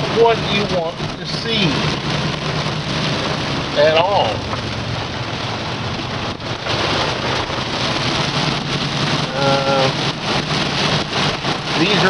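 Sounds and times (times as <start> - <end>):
engine idling: 0.0 - 12.0
heavy rain drumming on vehicle: 0.0 - 12.0.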